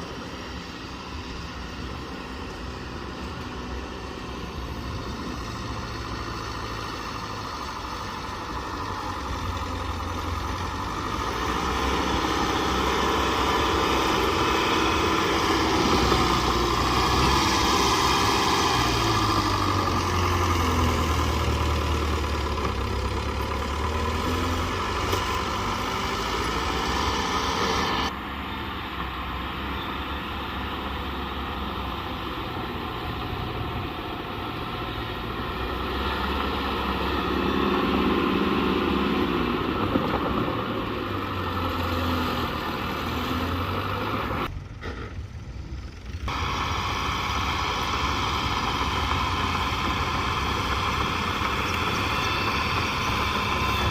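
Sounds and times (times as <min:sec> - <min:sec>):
heavy machinery diesel engine: 0:00.0 - 0:53.9.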